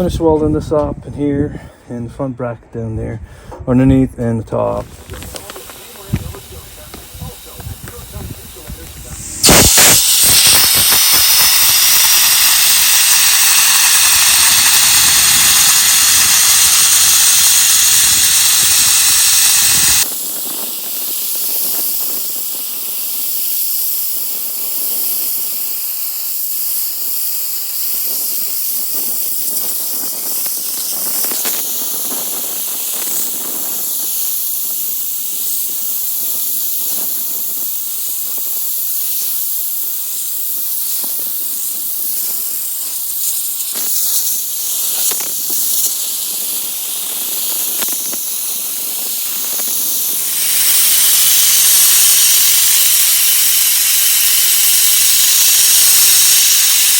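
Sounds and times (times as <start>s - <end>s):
sandblaster hissing: 4.6s - 56.9s
thin air hiss: 4.8s - 56.9s.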